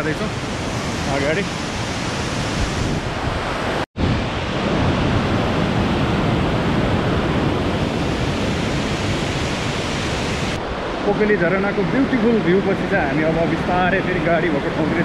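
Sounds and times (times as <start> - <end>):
waterfall rushing: 0.0 - 5.7, 6.5 - 15.0.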